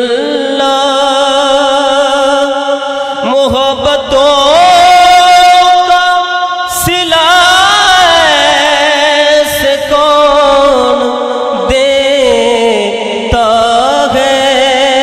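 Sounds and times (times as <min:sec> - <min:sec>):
man singing: 0:00.0 - 0:15.0.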